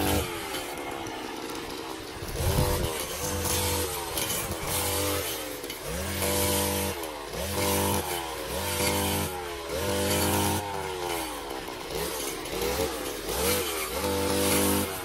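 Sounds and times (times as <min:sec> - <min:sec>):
brush cutter engine revving: 0:00.0 - 0:15.0.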